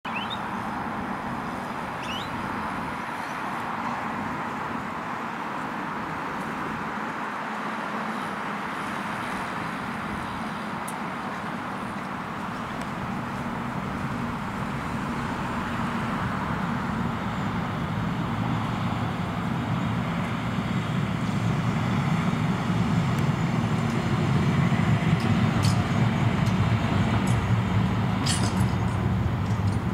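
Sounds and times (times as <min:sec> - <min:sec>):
road traffic: 0:00.0 - 0:29.9
tram running along track: 0:00.1 - 0:29.9.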